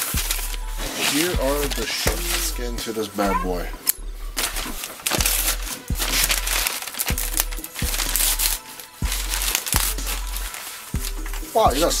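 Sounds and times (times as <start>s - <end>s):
envelope being torn open: 0.0s - 2.6s, 4.4s - 11.6s
plastic envelope crinkling: 0.0s - 3.5s, 4.3s - 12.0s.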